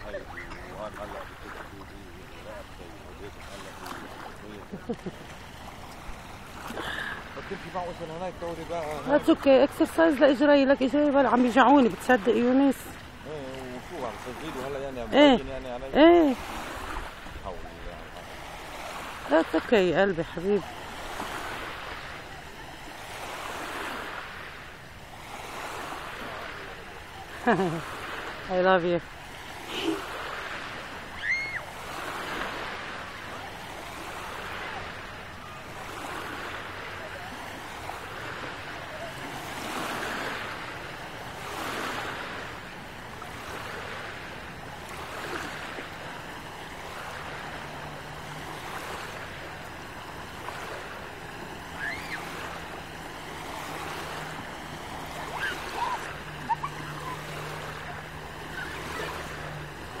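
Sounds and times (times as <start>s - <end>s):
lake waves lapping at shore: 0.0s - 60.0s.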